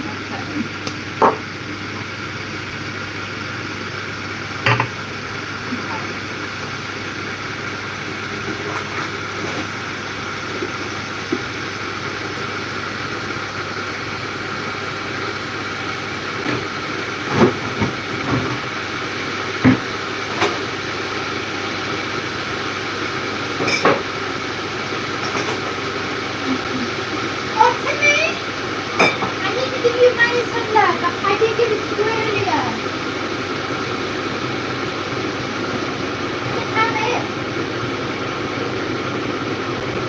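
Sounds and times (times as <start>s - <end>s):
kitchen appliance humming: 0.0s - 40.0s.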